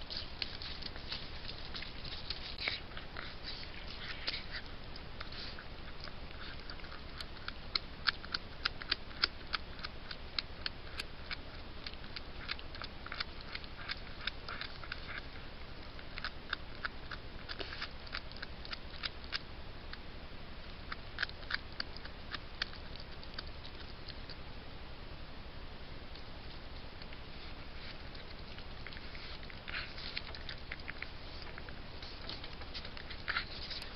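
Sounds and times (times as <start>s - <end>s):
animal chewing crunching clicks: 0.0s - 20.0s, 20.6s - 24.5s, 26.1s - 33.9s.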